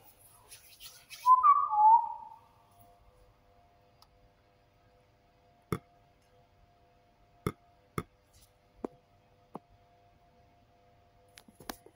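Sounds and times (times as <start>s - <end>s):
faint hum: 0.0s - 11.9s.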